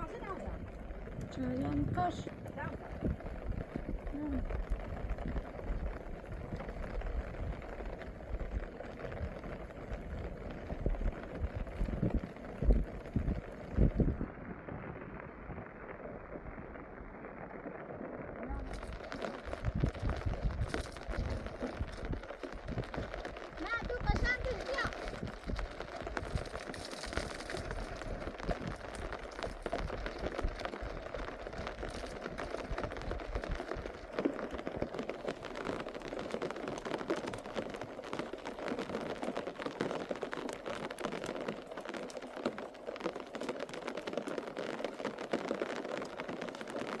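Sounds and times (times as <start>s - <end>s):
rain pattering: 0.0s - 47.0s.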